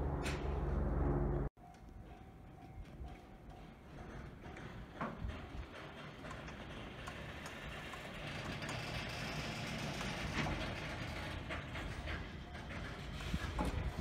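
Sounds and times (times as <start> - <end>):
freight train wheels rumbling: 0.0 - 14.0
train clanks and clicks: 0.1 - 0.8, 1.6 - 14.0.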